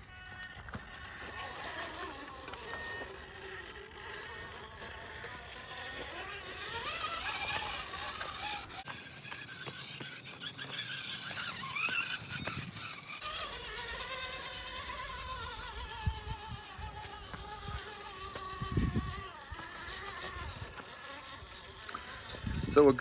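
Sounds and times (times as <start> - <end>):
electric motor and gear whine: 0.0 - 23.0
tires scraping on rock: 0.0 - 23.0.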